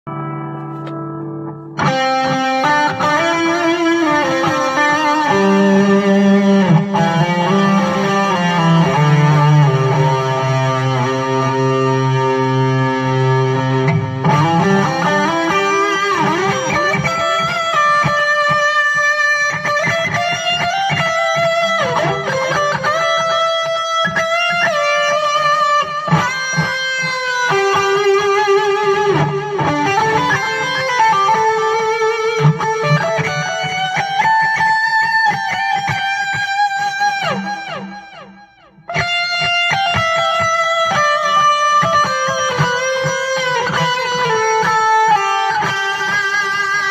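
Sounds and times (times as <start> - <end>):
electric guitar solo: 0.1 - 46.9.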